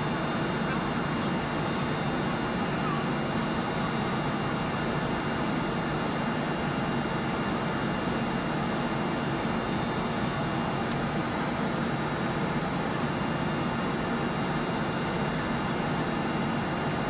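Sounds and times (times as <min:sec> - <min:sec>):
turboprop engine drone: 0:00.0 - 0:17.0.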